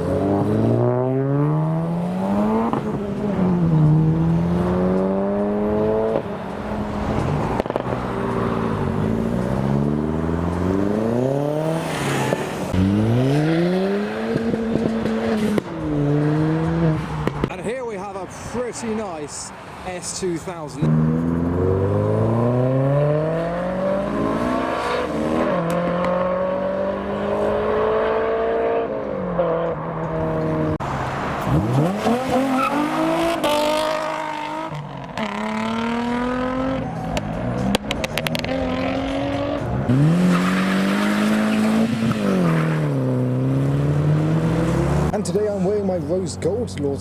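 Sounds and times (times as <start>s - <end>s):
cars accelerating through gears: 0.0s - 17.5s, 20.8s - 46.9s.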